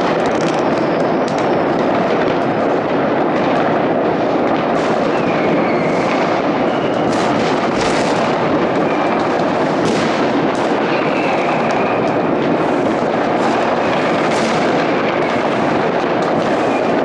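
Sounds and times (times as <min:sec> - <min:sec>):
firework whistles: 0:00.0 - 0:03.1, 0:04.6 - 0:17.0
distant fireworks rumble and crackle: 0:00.0 - 0:17.0
nearer firework bangs: 0:00.0 - 0:17.0.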